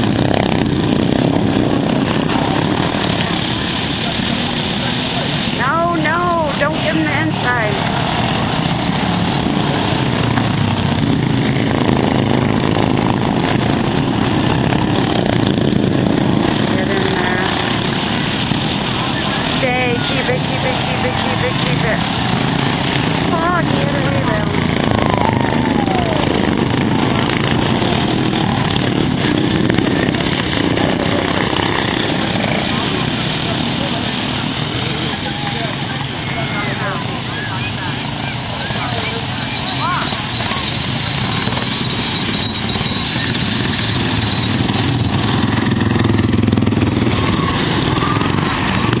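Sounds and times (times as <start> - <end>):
racing lawn mower engines: 0.0 - 49.0.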